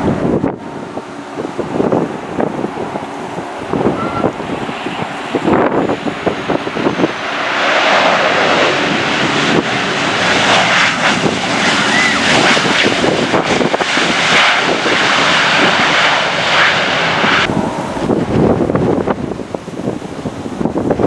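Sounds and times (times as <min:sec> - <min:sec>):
airliner engines flying past: 0:00.0 - 0:21.0
wind gusting on microphone: 0:00.0 - 0:21.0.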